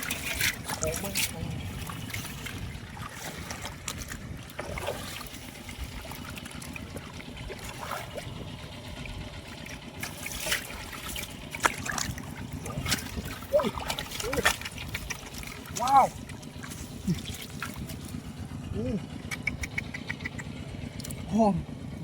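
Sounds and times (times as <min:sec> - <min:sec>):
water sloshing and splashing: 0:00.0 - 0:21.3
steady low rumble: 0:00.0 - 0:22.0.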